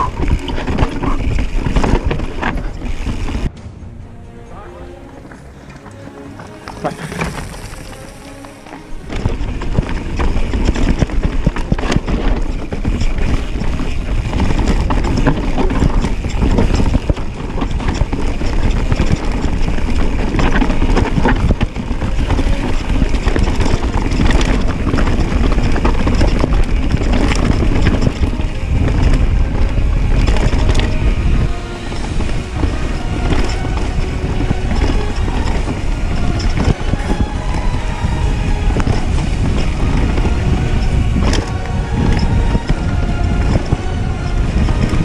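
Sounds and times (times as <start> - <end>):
bike rattling over bumps: 0.0 - 3.6, 5.3 - 45.0
wind buffeting microphone: 0.0 - 4.0, 5.4 - 45.0
tyres rolling over dirt and rocks: 0.0 - 45.0.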